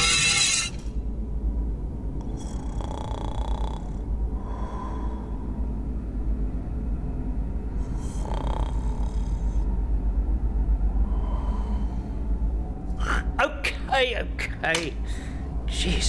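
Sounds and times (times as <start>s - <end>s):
deep low rumbling drone: 0.0s - 16.0s.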